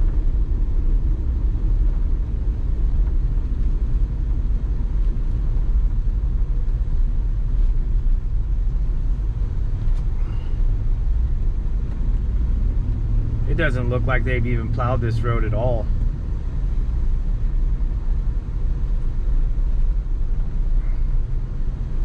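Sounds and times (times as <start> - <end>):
engine and tyres rumbling on snow: 0.0 - 22.0.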